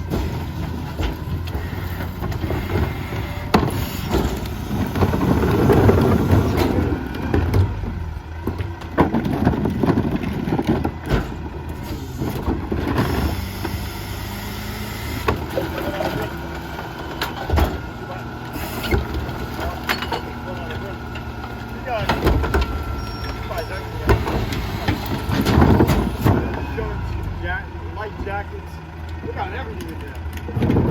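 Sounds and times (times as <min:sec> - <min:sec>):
metal clanks and knocks: 0:00.0 - 0:13.1, 0:15.2 - 0:27.2
garbage truck engine running: 0:00.0 - 0:30.9.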